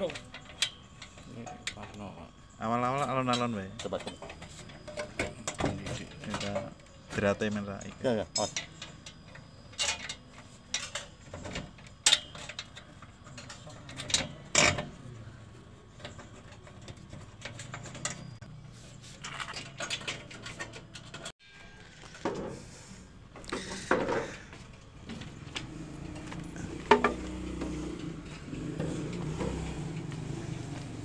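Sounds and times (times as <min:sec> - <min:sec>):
metal clinks and knocks: 0:00.0 - 0:15.0, 0:15.8 - 0:18.5, 0:19.2 - 0:22.6, 0:23.2 - 0:31.0.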